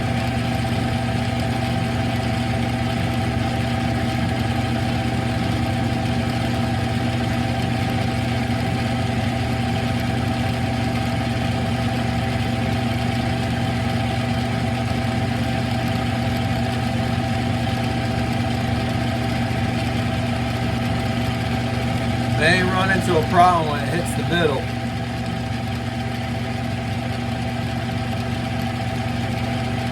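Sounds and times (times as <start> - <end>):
lathe motor and gear hum: 0.0 - 29.9.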